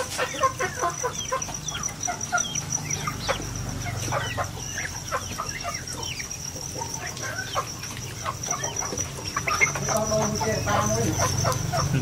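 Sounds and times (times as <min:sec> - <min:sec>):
chickens clucking and cheeping: 0:00.0 - 0:12.0.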